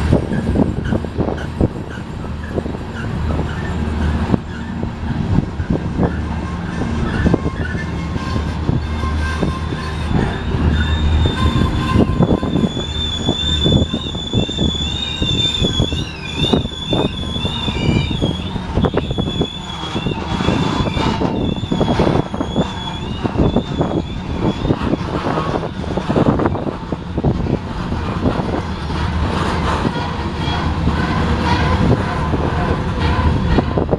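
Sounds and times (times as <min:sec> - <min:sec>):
train wheels squealing on rails: 0:00.0 - 0:33.9.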